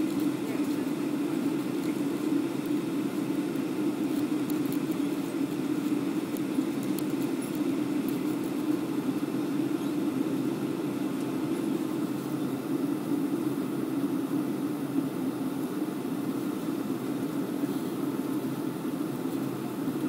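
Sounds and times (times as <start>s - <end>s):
aircraft cabin engine drone: 0.0s - 20.0s.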